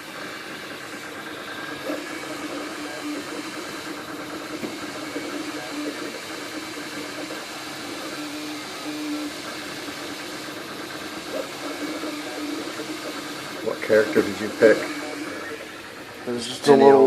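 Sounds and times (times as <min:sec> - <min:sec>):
printer fan hum: 0:00.0 - 0:17.0
stepper motors whining: 0:00.0 - 0:17.0.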